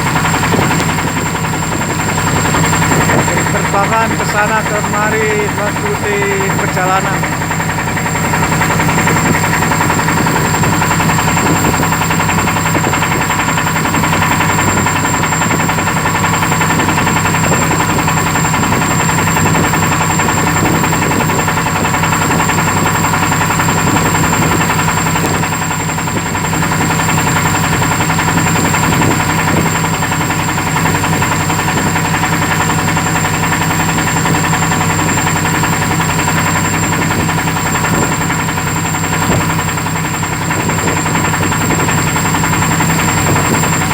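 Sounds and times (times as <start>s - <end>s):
boat engine droning: 0.0s - 43.9s.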